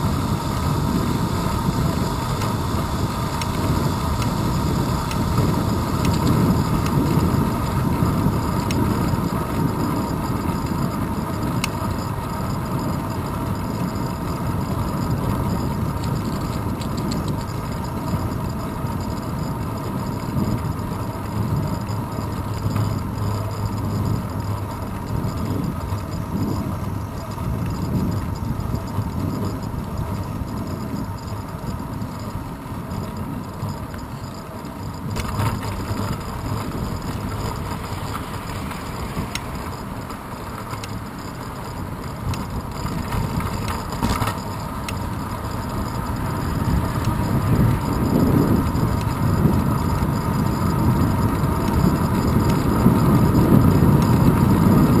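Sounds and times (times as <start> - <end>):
bicycle road rumble: 0.0 - 55.0
wind: 0.0 - 55.0.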